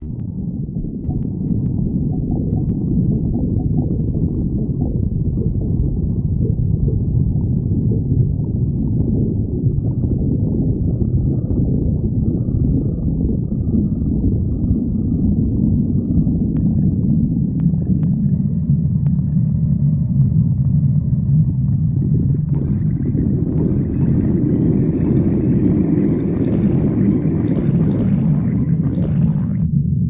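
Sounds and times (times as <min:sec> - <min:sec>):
stomach growling: 0:00.0 - 0:29.8.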